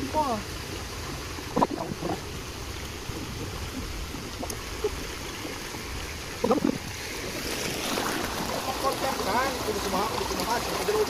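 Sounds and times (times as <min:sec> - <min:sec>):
small stream flowing: 0:00.0 - 0:11.0.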